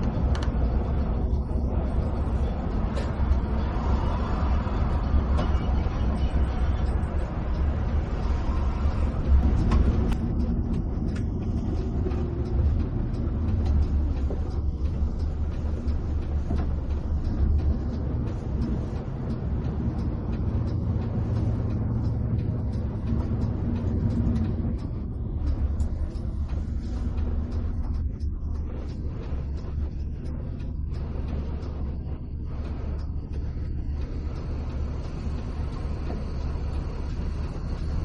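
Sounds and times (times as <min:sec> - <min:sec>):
bus engine drone: 0:00.0 - 0:38.0
light ticks: 0:00.0 - 0:38.0.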